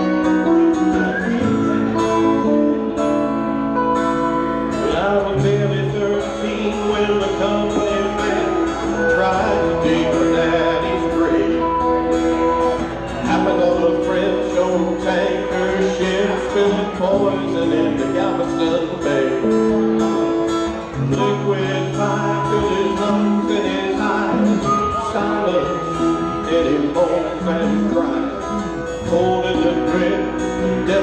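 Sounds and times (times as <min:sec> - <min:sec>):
harmonica long held notes: 0:00.0 - 0:31.0
strummed acoustic guitar: 0:00.0 - 0:31.0.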